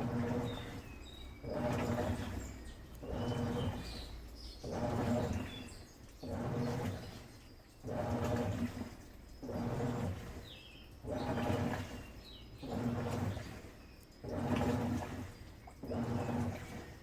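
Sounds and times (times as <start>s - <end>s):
washing machine agitating: 0.0s - 17.0s
water churning: 0.0s - 17.0s.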